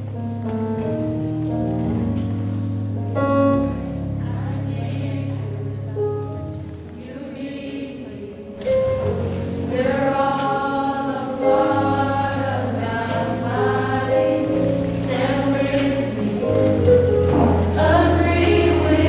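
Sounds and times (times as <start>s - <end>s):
choir singing in harmony: 3.6s - 19.0s.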